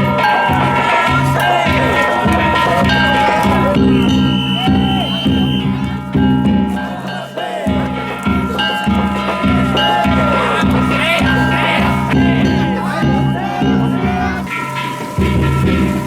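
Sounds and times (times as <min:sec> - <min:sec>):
hand gongs ringing: 0:00.0 - 0:16.0
people shouting and calling out: 0:00.0 - 0:16.0
taiko drum beating: 0:00.0 - 0:16.0.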